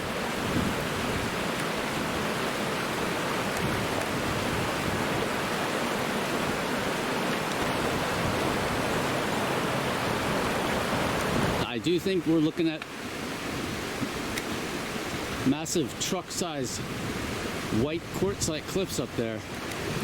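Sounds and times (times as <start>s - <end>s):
creek and waterfall rushing: 0.0s - 20.0s.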